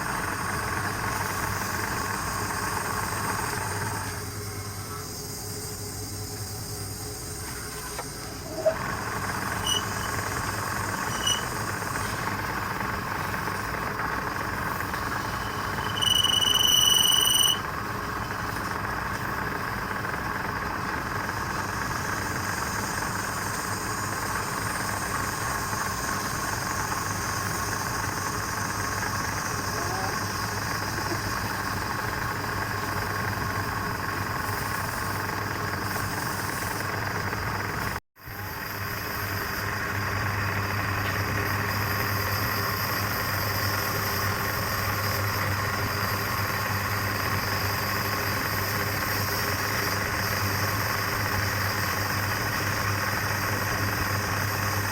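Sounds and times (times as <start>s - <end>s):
lathe motor humming: 0.0s - 54.9s.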